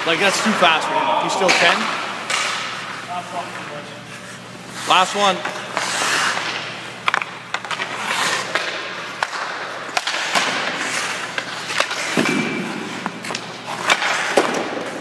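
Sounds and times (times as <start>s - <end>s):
skate blades scraping ice: 2.2s - 15.0s.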